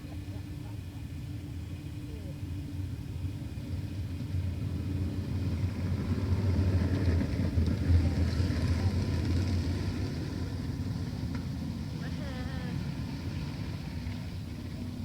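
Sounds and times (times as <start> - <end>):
race car engines rumbling: 0.0 - 15.0.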